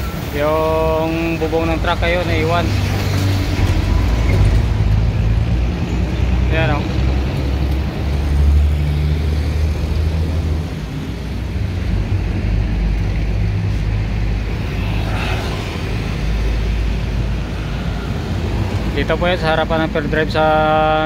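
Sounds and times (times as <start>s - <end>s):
road traffic noise: 0.0s - 21.0s
vehicle engine rumbling: 0.0s - 21.0s.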